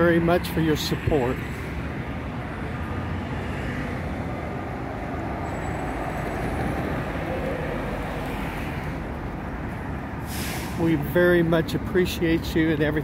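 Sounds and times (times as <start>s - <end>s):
vehicles driving past: 0.0s - 13.0s.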